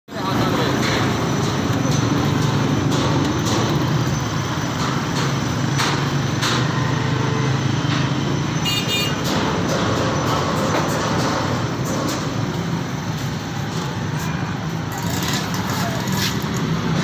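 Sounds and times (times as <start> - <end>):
passing vehicles: 0.1 - 17.0.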